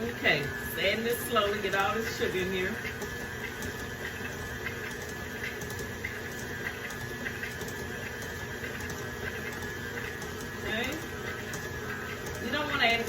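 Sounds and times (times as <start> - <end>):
electric mixer whining: 0.0 - 13.0.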